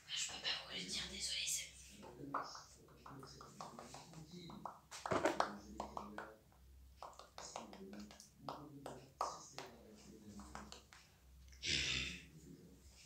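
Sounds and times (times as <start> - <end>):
quiet indistinct talking: 0.0 - 13.0.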